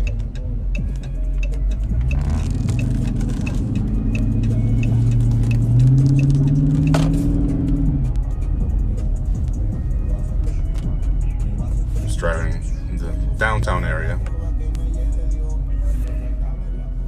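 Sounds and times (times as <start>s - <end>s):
car engine accelerating: 0.0s - 16.6s.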